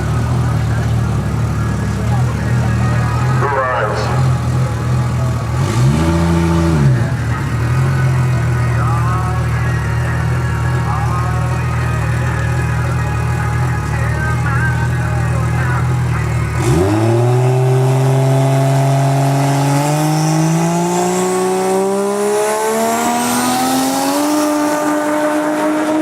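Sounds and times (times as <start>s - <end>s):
drag car engine accelerating: 0.0s - 26.0s.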